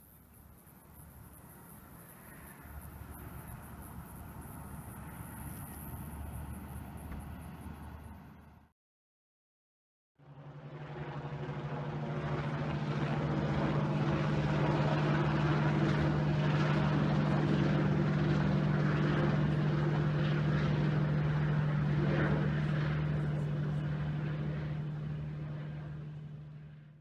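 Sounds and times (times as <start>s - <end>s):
engine droning with low hum: 1.2s - 8.7s, 10.2s - 27.0s.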